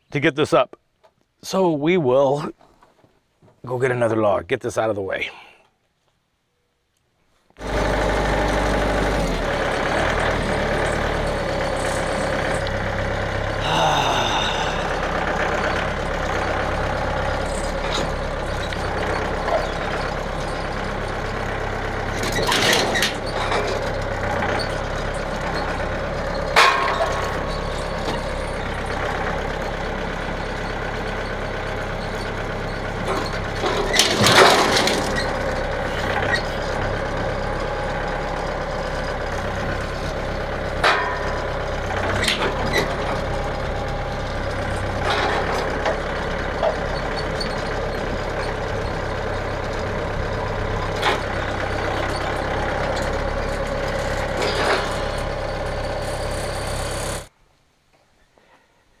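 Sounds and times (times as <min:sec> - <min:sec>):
tractor engine running: 0:07.6 - 0:57.4.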